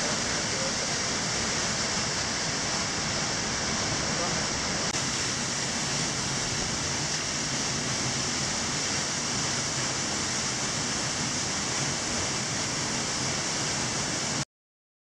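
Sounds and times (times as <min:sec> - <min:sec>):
waterfall rushing into pool: 0:00.0 - 0:14.4.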